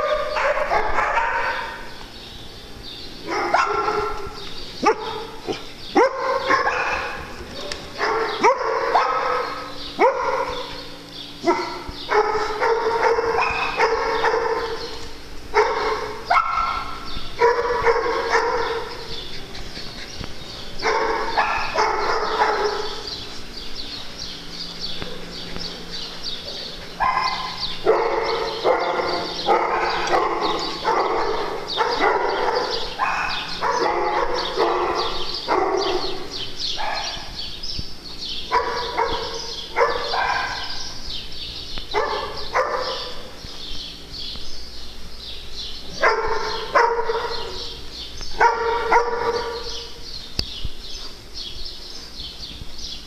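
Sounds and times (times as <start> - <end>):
dogs barking: 0.0 - 52.7.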